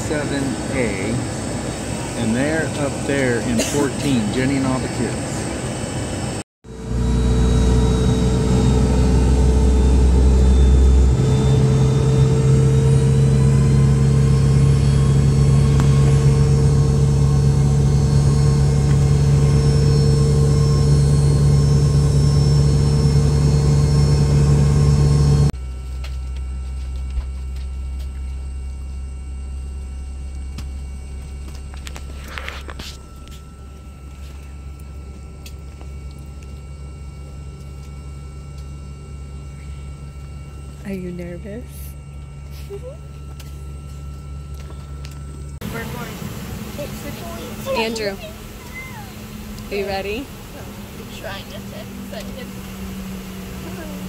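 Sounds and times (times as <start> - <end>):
jet engine and airflow drone: 0.0 - 25.6, 27.0 - 54.0
quiet cabin hum: 9.3 - 54.0.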